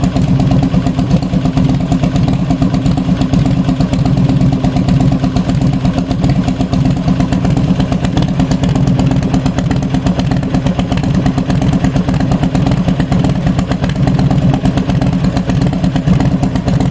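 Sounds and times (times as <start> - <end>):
motorcycle engine running steadily: 0.0 - 16.9.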